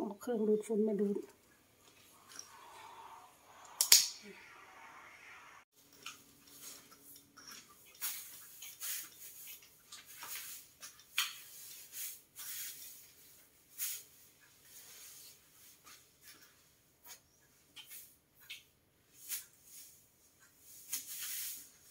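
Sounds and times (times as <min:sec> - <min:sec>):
broom swishing against wall: 0:02.0 - 0:17.2, 0:19.0 - 0:21.9.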